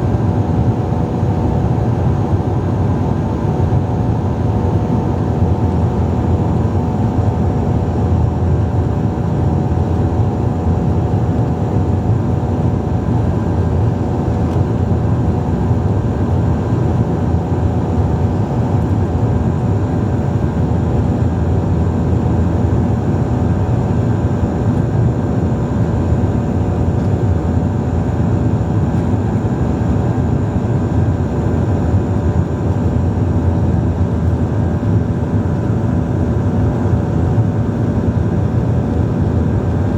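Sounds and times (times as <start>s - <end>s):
turboprop drone inside cabin: 0.0s - 39.9s.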